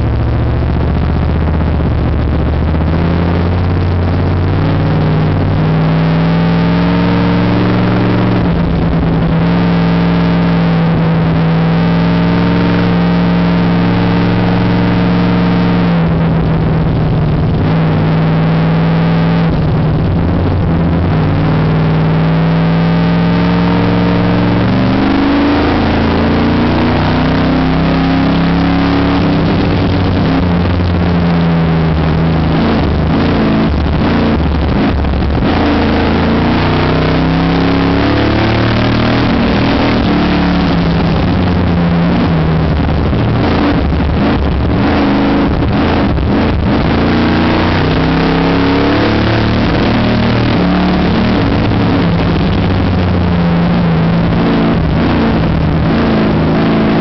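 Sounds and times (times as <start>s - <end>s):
race car engine from cockpit: 0.0s - 57.0s.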